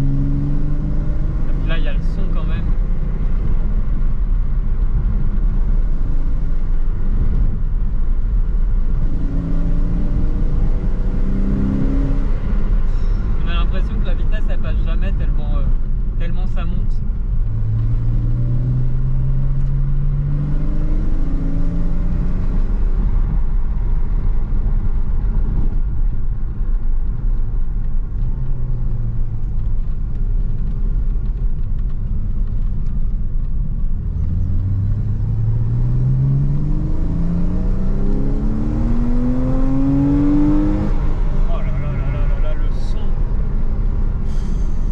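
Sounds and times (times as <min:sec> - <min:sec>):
car engine accelerating: 0:00.0 - 0:16.2, 0:16.9 - 0:44.9
low road rumble: 0:00.0 - 0:44.9.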